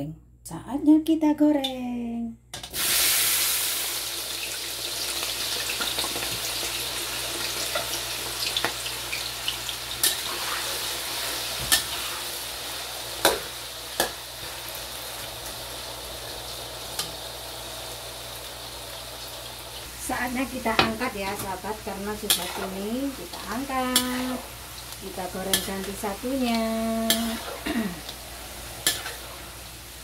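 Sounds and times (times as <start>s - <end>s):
potatoes sizzling in hot oil: 2.7s - 30.0s.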